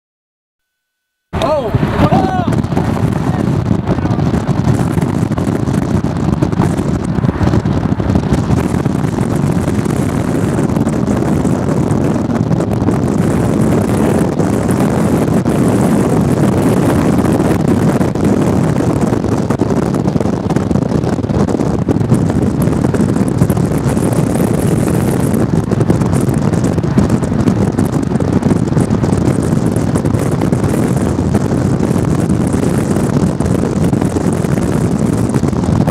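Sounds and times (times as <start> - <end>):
strong wind on microphone: 1.3 - 35.9.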